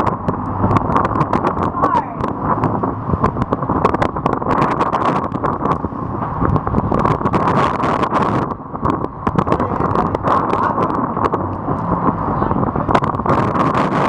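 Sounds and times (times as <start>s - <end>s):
boat rushing through sea: 0.0s - 14.0s
wind buffeting microphone: 0.0s - 14.0s.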